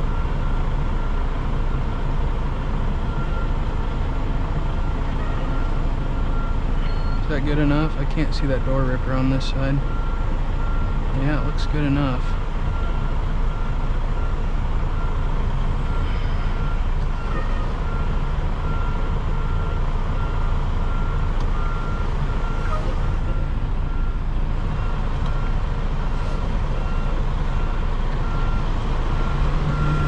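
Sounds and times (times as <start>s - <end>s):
diesel engine running: 0.0s - 30.0s
truck backup alarm beeping: 0.0s - 30.0s.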